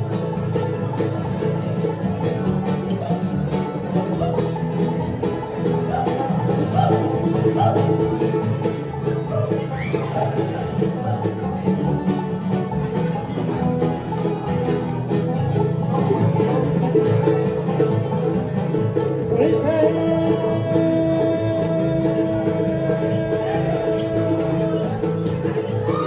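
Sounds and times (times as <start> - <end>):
banjo picking: 0.0 - 26.0
bluegrass band playing: 0.0 - 26.0.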